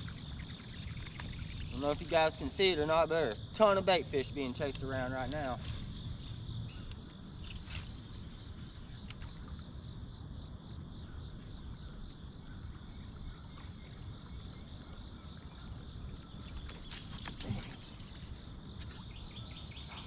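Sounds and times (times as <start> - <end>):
crickets and insects chirping: 0.0 - 20.0.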